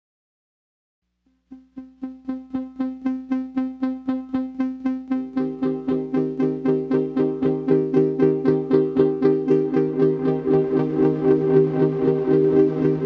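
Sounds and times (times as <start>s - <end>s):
synthesizer pulsing note: 1.5s - 13.0s.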